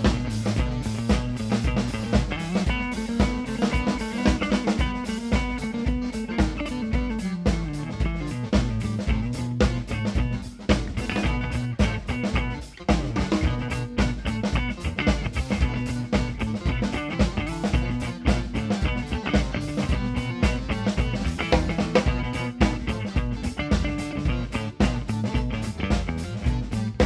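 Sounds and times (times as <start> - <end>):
drum kit beat: 0.0 - 27.0
electric guitars: 0.0 - 27.0.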